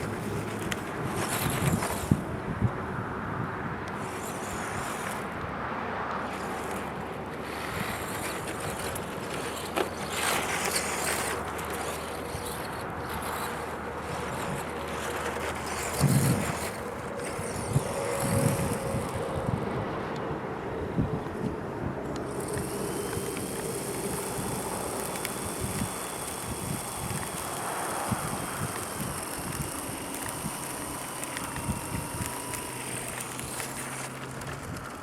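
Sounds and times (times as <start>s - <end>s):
wind noise on microphone: 0.0s - 5.4s, 7.4s - 35.0s
rc truck motor whine: 0.0s - 35.0s.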